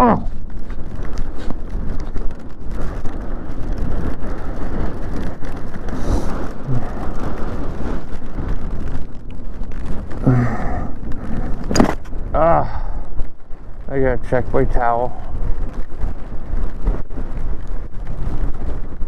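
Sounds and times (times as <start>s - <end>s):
wet road noise: 0.0s - 19.0s
wind rushing on microphone: 0.0s - 19.0s.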